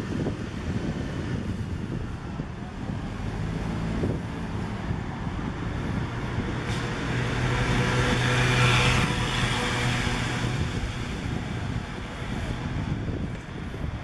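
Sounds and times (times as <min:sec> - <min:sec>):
city traffic hum: 0:00.0 - 0:14.0
vehicle passing by: 0:00.2 - 0:13.2.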